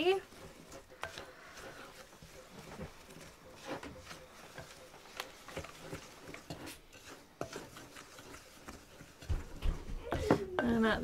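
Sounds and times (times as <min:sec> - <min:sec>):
spatula scraping gritty mixture: 0:00.0 - 0:11.0.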